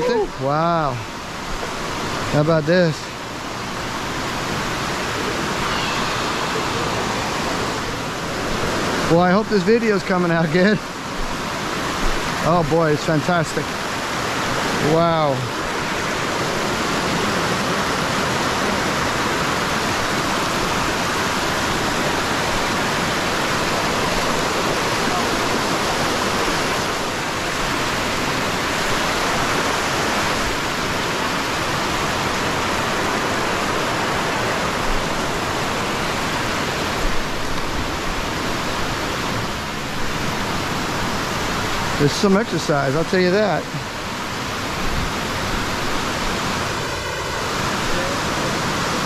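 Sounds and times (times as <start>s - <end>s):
river whitewater rushing over rocks: 0.0s - 49.0s.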